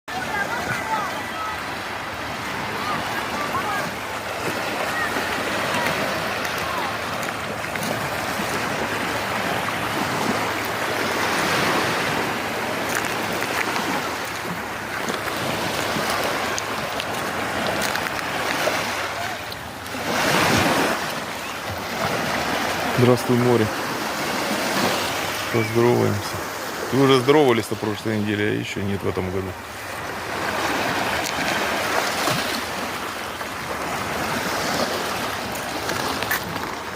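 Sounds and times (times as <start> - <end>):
waves washing onto shore: 0.1 - 36.9.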